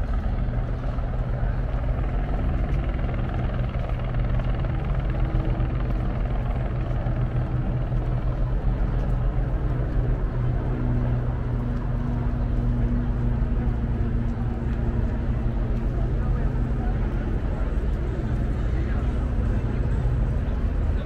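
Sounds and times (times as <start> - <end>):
helicopter flying nearby: 0.0 - 21.0.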